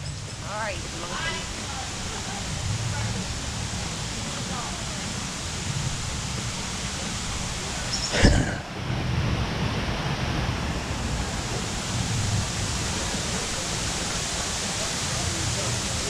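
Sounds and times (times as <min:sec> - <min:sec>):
rushing hissing outdoor noise: 0:00.0 - 0:16.0.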